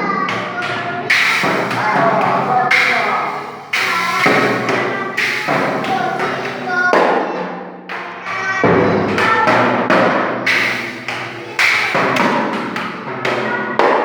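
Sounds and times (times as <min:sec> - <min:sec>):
hard struck ringing notes: 0:00.2 - 0:07.2, 0:07.9 - 0:14.0.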